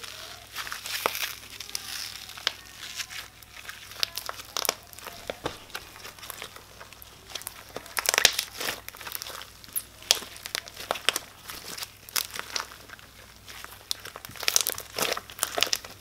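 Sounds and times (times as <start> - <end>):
hands squishing slime: 0.0 - 16.0.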